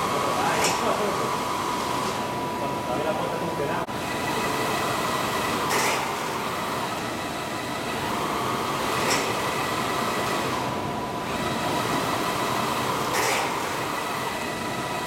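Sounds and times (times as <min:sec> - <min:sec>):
printer carriage whir: 0:00.0 - 0:15.0.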